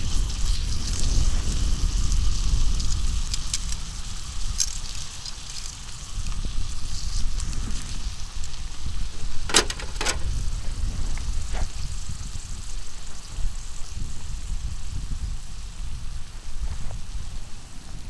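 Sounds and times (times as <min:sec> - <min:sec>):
food sizzling on a griddle: 0:00.0 - 0:08.6, 0:11.6 - 0:18.0.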